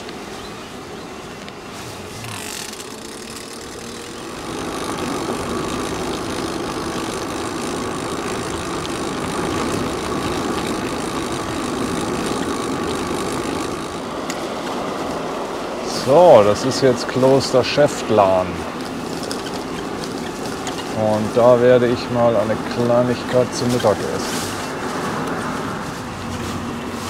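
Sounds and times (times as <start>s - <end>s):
e-bike rolling rumble: 0.0s - 27.0s.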